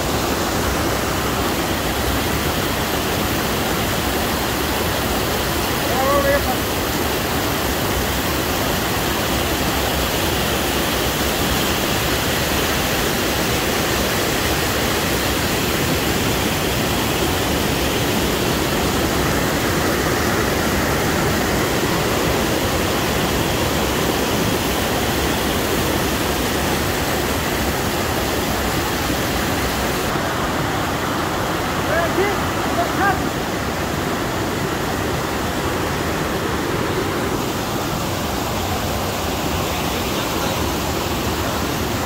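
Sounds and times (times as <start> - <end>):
stream rushing over boulders: 0.0 - 42.0.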